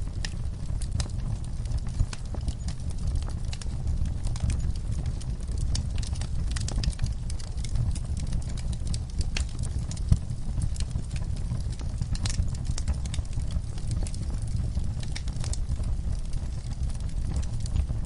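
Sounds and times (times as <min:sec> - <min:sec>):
low steady rumble: 0:00.0 - 0:18.0
wood fire crackling: 0:00.0 - 0:18.0
sharp pops of fire: 0:00.1 - 0:18.0.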